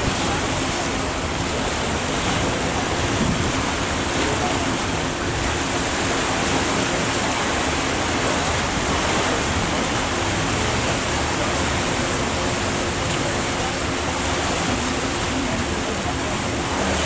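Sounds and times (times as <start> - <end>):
water rushing past boat: 0.0 - 17.0.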